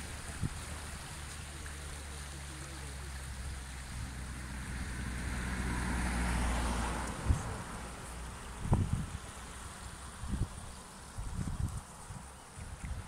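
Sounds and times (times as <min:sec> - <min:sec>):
car passing: 0:00.0 - 0:11.2
river rushing: 0:00.0 - 0:13.0.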